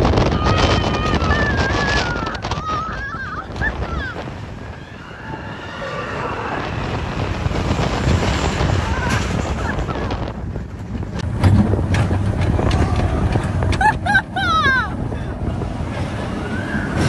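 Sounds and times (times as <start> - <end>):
roller coaster train rumbling on track: 0.0 - 17.0
wind rushing over microphone: 0.0 - 17.0.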